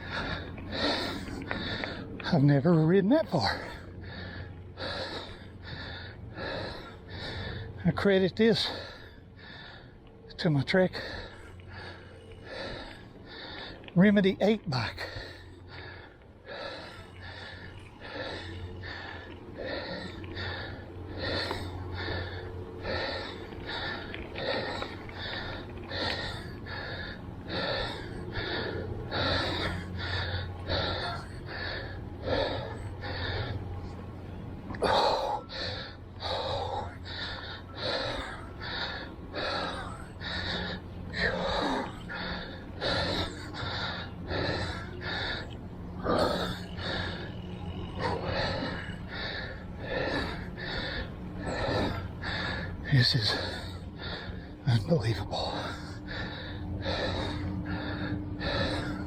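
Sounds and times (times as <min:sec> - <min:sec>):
man panting hard: 0:00.0 - 0:59.0.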